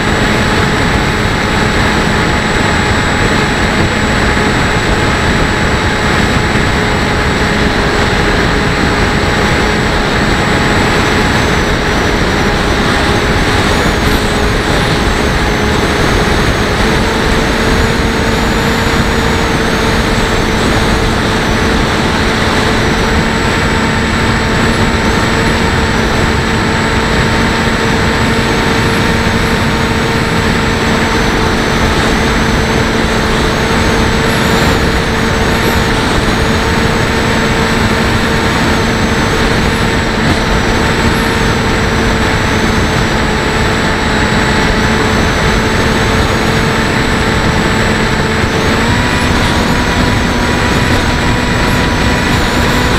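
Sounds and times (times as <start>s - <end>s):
electric motor whine: 0.0s - 52.9s
wind rush on microphone: 0.0s - 52.9s.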